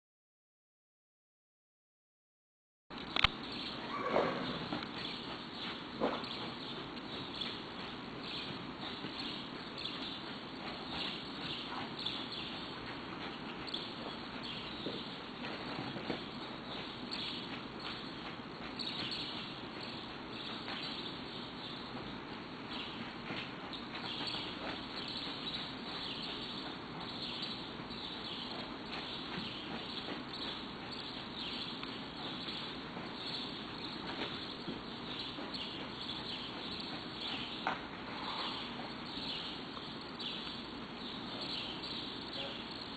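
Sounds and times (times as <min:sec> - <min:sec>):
outdoor background noise: 0:02.9 - 0:42.9
horse hoofbeats on soft ground: 0:03.0 - 0:42.9.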